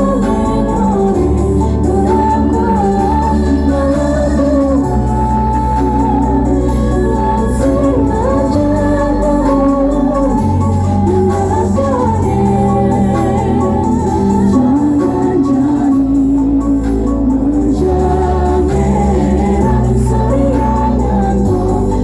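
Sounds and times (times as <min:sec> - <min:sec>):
heavy held bass notes: 0:00.0 - 0:22.0
sung melody over loudspeakers: 0:00.0 - 0:22.0.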